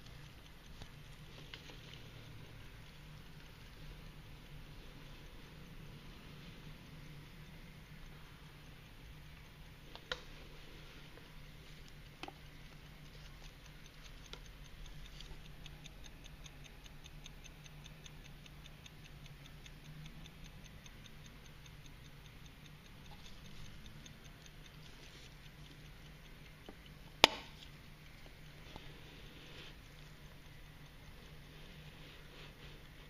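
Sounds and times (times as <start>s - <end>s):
clock ticking quickly: 0.0s - 33.0s.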